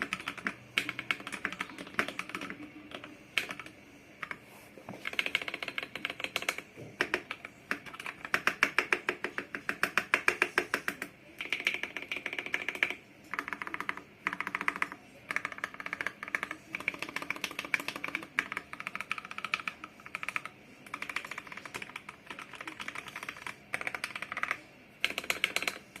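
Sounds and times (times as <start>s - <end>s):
mechanical keyboard typing: 0.0s - 4.4s, 5.0s - 26.0s.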